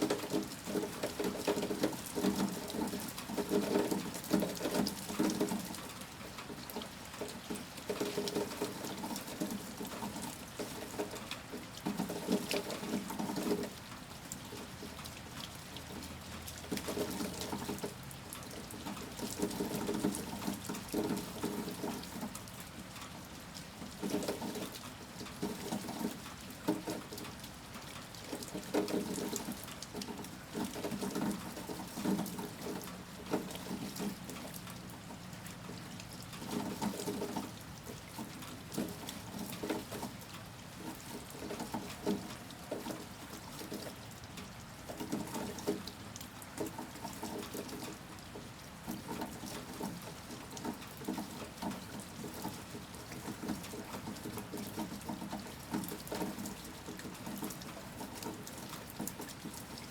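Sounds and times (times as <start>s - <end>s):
heavy rain falling: 0.0s - 59.9s
pattering drips: 0.0s - 59.9s
water pouring and splashing: 0.0s - 59.9s.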